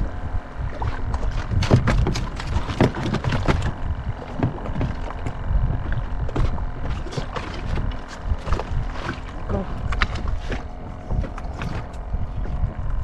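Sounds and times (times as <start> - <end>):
wind buffeting microphone: 0.0 - 13.0
water slapping against boat hull: 0.4 - 13.0.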